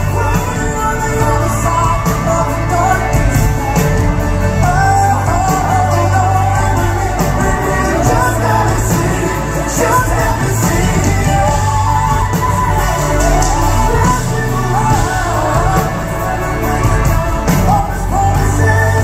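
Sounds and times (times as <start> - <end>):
live band playing: 0.0 - 19.0
man singing: 0.0 - 19.0.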